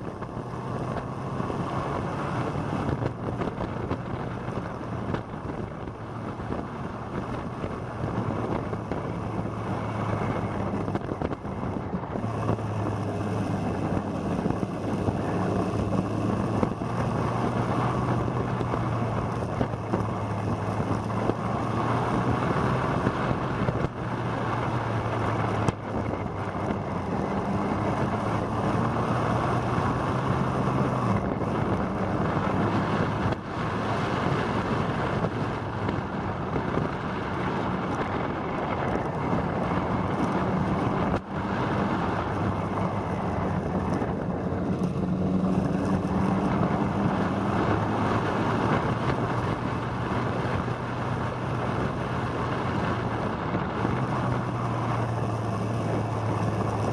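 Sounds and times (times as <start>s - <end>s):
motorcycle engine running: 0.0s - 56.9s
wind rush on microphone: 0.0s - 56.9s.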